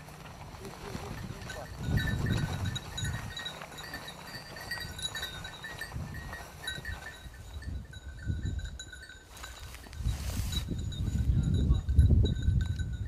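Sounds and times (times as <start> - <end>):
small bells tinkling: 0.0 - 13.0.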